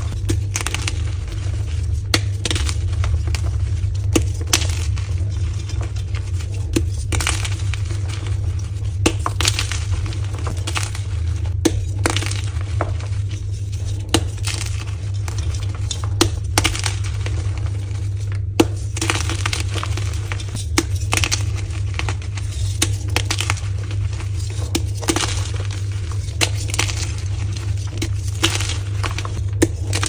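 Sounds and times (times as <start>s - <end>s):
chalk blocks being crushed: 0.0s - 30.0s
steady low hum: 0.0s - 30.0s.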